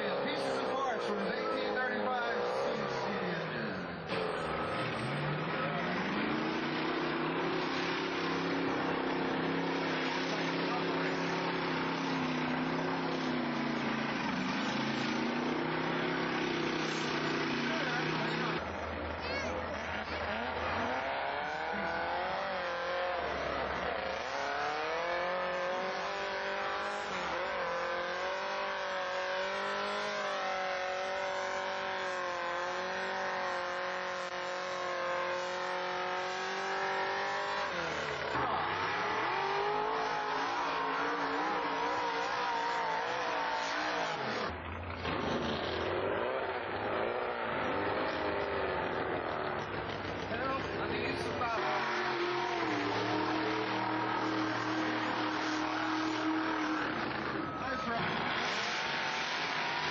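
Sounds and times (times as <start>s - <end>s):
buggy engine at high revs: 0.0s - 59.9s
engine running at speed: 0.0s - 59.9s.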